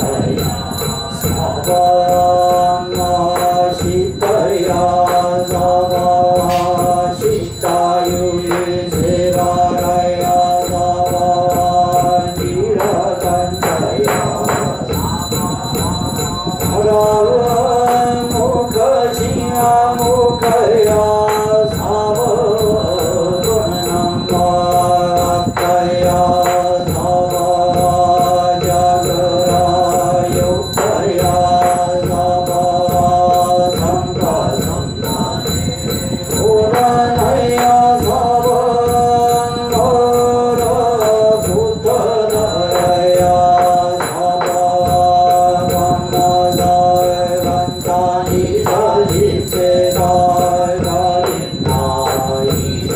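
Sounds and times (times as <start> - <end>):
congregation chanting: 0.0 - 52.9
fast rhythmic striking: 0.0 - 52.9
monk chanting: 0.0 - 52.9.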